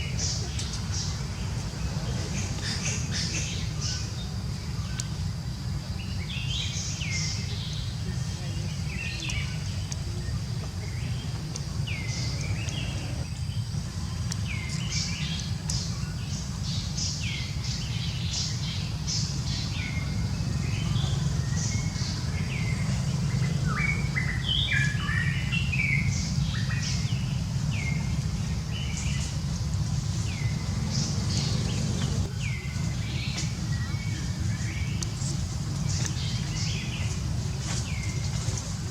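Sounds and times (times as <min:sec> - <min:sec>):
steady low rumble: 0:00.0 - 0:38.9
high chirping calls: 0:06.0 - 0:38.6.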